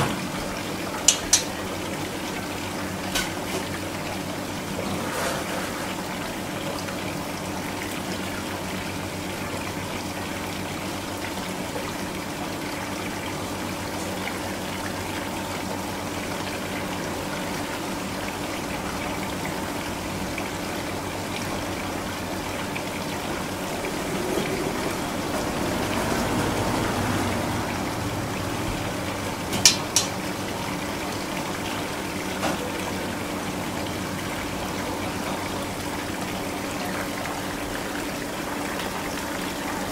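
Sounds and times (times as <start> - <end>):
water running: 0.0 - 39.9.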